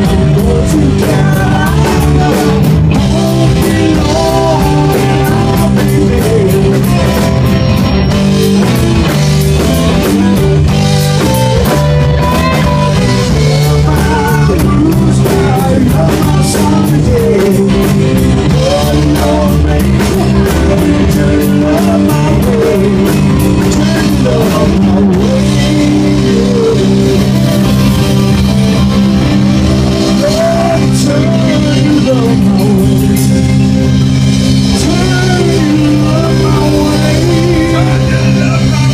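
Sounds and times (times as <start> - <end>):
person singing: 0.0 - 28.1, 29.9 - 33.9, 34.6 - 38.9
drum kit: 0.0 - 38.9
electric guitar: 0.0 - 38.9.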